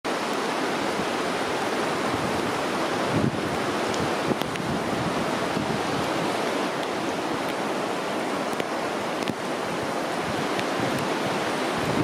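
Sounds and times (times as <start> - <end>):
flooded creek rushing: 0.1 - 12.0.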